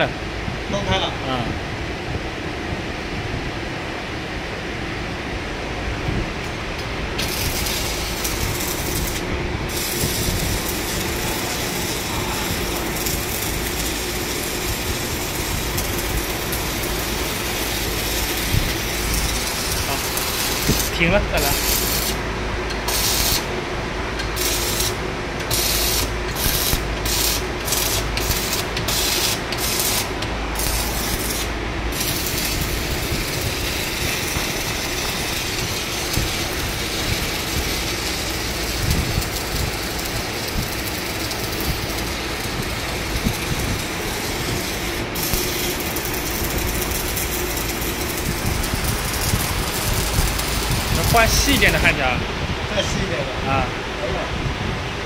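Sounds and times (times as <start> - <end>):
welding arc crackling and hissing: 6.4 - 52.2.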